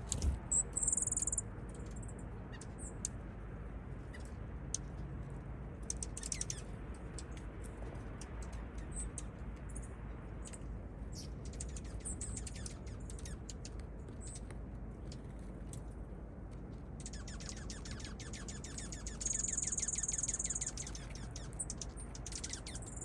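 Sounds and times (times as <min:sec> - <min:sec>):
songbirds chirping: 0:00.0 - 0:16.0, 0:16.6 - 0:23.0.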